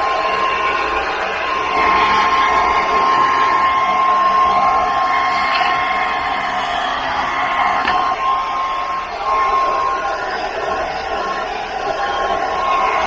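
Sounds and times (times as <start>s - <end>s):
blow dryer running: 0.0s - 13.0s.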